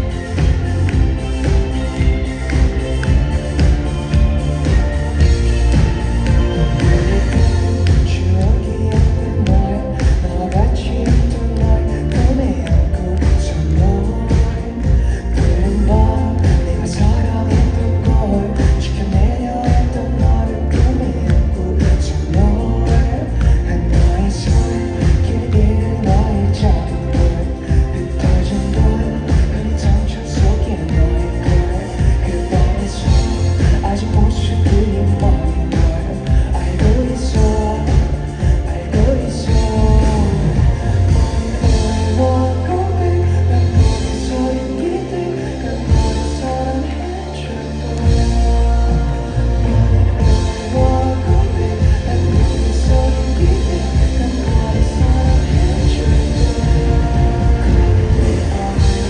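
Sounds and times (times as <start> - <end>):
bass: 0.0 - 59.0
drums: 0.0 - 59.0
live pop-rock band with singing: 0.0 - 59.0.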